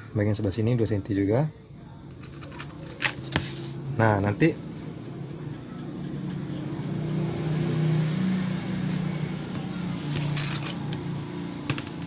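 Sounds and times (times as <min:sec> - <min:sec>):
vehicle engine hum: 0:02.1 - 0:12.0.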